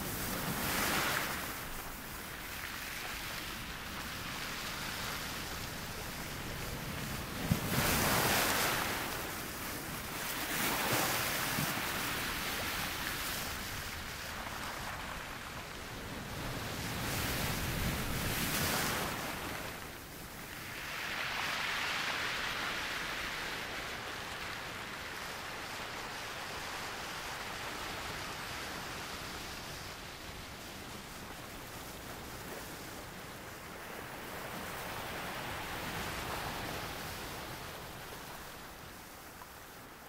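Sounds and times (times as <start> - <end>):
waves breaking on shore: 0.0 - 40.0.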